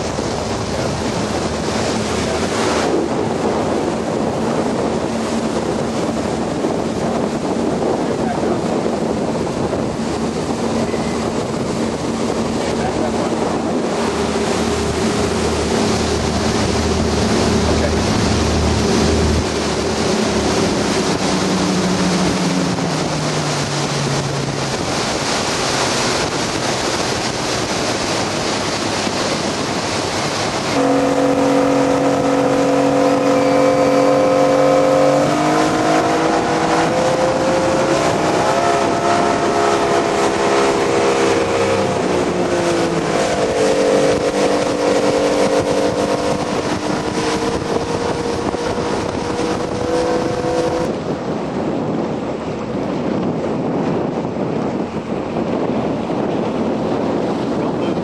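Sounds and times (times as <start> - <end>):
boat engines running: 0.0 - 58.0
water rushing past hull: 0.0 - 58.0
wind rushing: 0.0 - 58.0.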